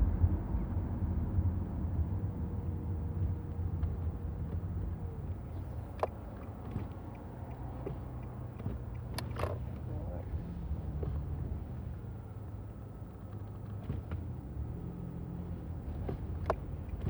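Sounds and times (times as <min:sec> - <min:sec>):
vehicle and road rumble: 0:00.0 - 0:17.0.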